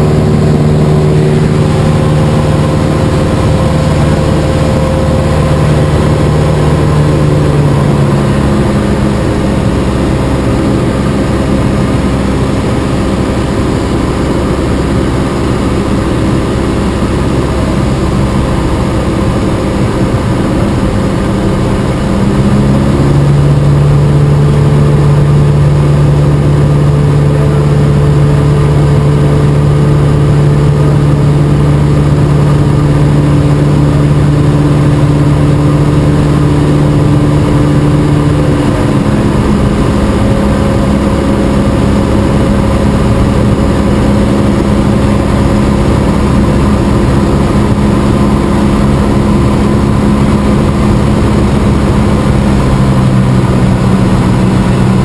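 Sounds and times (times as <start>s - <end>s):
plane engine and propeller droning: 0.0s - 55.0s.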